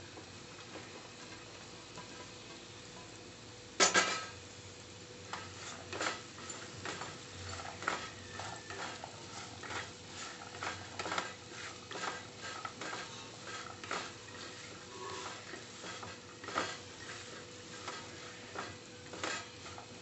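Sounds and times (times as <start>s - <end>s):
hot oil sizzling faintly: 0.0s - 20.0s
spatula scraping and tapping pan: 0.7s - 3.2s, 5.2s - 20.0s.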